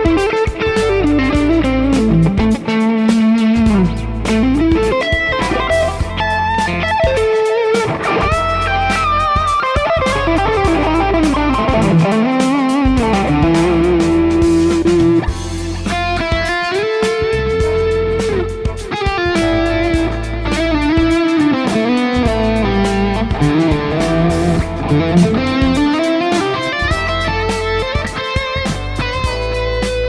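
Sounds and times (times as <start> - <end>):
bass and drum backing track: 0.0 - 30.0
electric guitar lead line: 0.0 - 30.0.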